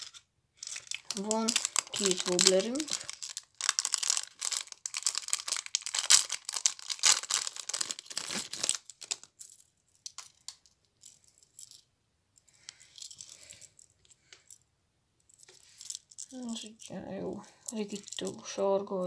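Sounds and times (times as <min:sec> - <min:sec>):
plastic bag crinkling: 0:00.0 - 0:11.8, 0:12.6 - 0:14.4, 0:15.4 - 0:18.5
lure rattle balls clattering: 0:00.0 - 0:14.6, 0:15.3 - 0:18.6.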